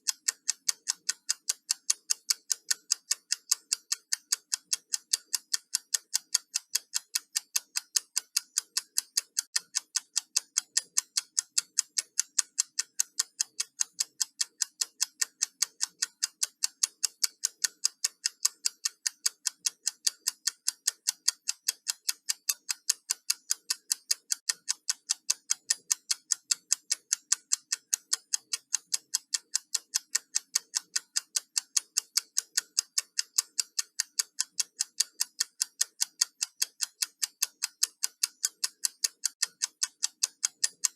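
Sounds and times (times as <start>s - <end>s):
countdown clock ticking: 0.0s - 40.9s.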